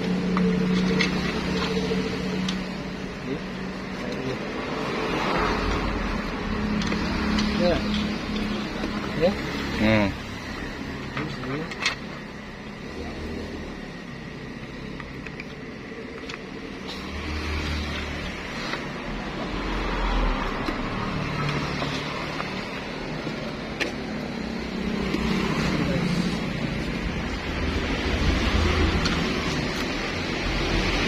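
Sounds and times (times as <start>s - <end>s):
vehicles passing rumble: 0.0s - 31.0s.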